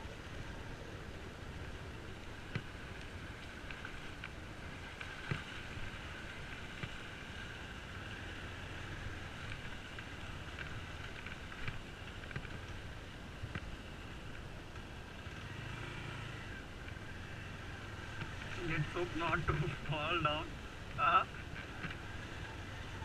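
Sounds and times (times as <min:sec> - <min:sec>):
motorcycle running at low speed: 0:00.0 - 0:23.0.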